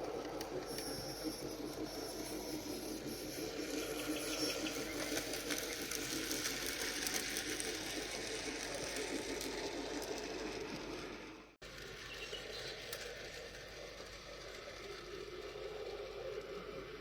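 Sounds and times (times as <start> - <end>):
train clattering on track: 0.0 - 16.8.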